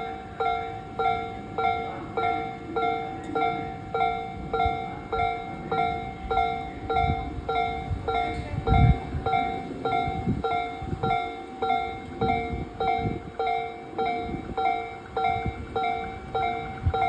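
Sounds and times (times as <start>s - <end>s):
level crossing warning bell: 0.0s - 17.0s
train rumbling: 0.0s - 17.0s.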